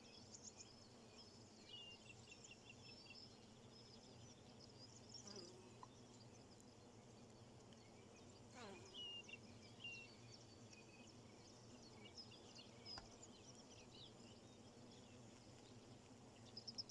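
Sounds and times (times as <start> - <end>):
small birds chirping: 0.1 - 16.9.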